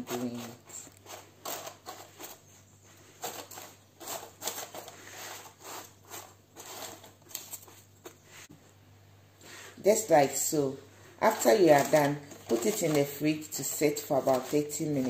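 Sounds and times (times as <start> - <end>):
spatula scraping crumbs in pan: 0.0 - 8.5, 11.2 - 15.0.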